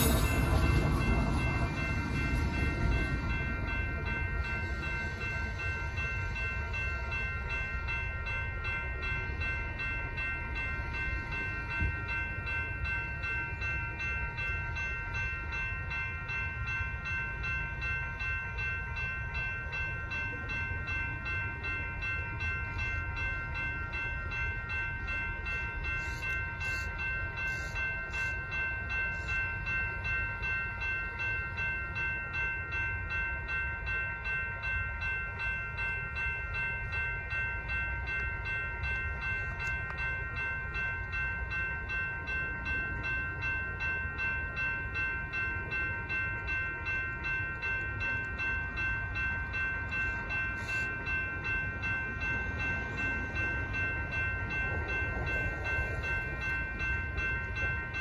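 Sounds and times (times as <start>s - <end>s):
crossing warning bells ringing: 0.0s - 58.0s.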